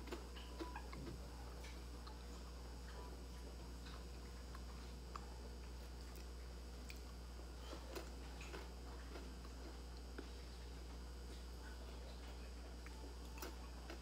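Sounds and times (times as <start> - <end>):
crunching chewing: 0.0 - 14.0
steady low hum: 0.0 - 14.0.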